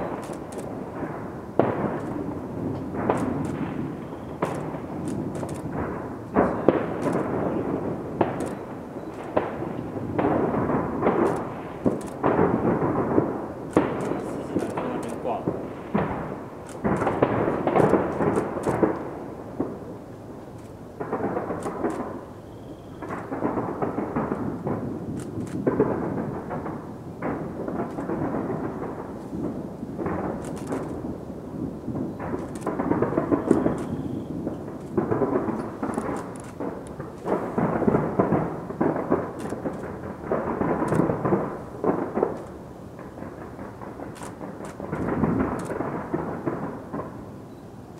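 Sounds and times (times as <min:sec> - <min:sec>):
distant fireworks booms: 0:00.0 - 0:47.9
fireworks crackle: 0:00.0 - 0:47.9.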